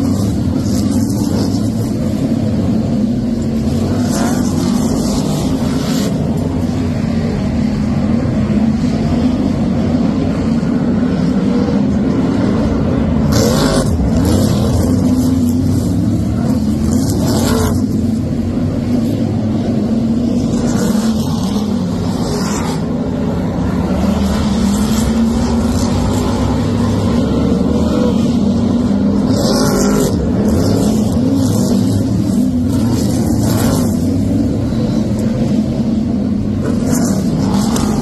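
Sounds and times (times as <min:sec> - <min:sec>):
stock car engines racing: 0:00.0 - 0:38.0.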